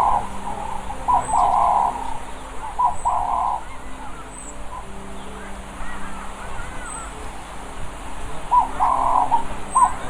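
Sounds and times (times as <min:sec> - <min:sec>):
birds chirping and calling: 0:00.0 - 0:10.0
faint steady hum: 0:00.0 - 0:10.0.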